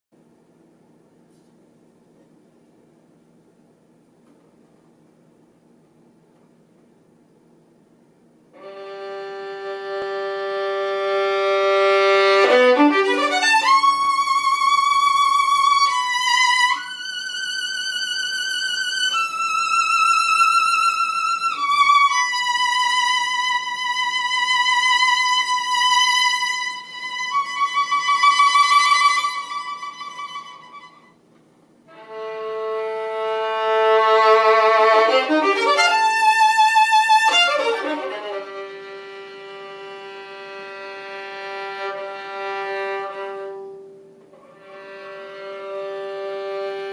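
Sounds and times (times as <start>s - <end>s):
solo violin playing: 8.5s - 31.2s, 31.9s - 46.9s.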